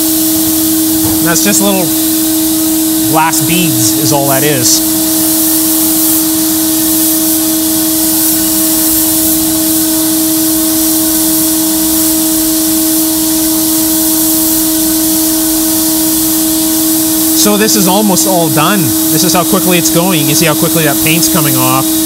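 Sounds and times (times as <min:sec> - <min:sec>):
air blast gun hissing: 0:00.0 - 0:22.0
dust collector vacuum humming: 0:00.0 - 0:22.0.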